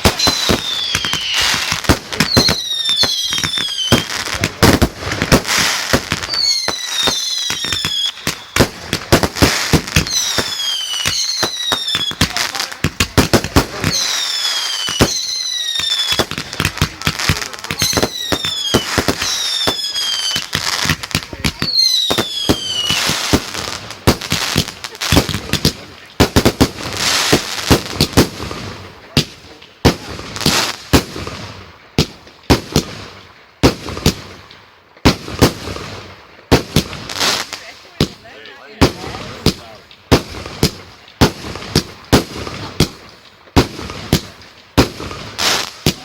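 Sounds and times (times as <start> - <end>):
firework bangs and crackling: 0.0 - 46.0
whistling fireworks: 0.0 - 46.0.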